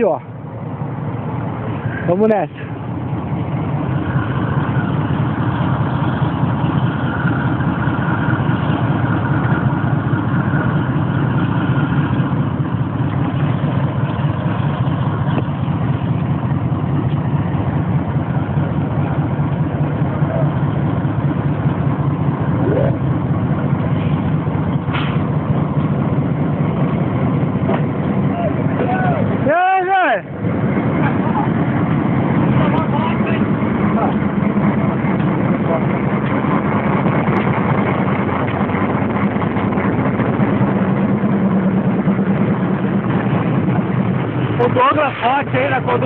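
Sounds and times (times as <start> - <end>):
locomotive diesel engine running: 0.0 - 46.0.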